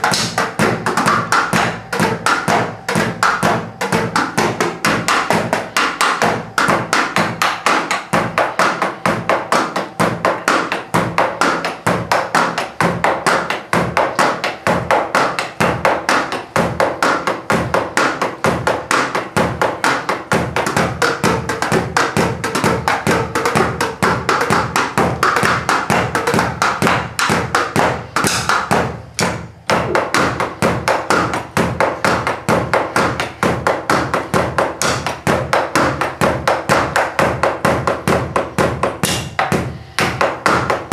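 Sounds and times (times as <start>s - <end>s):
drumsticks tapping drum pads: 0.0s - 40.9s.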